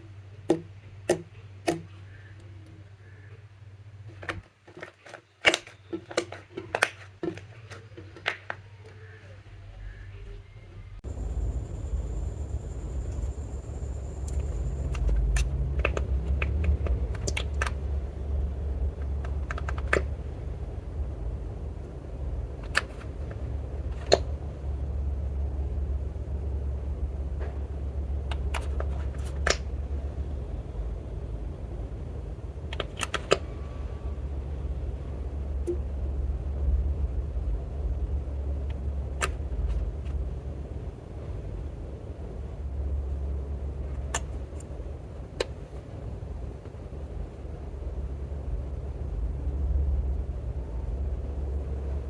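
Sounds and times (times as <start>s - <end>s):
faint low hum: 5.2s - 52.0s.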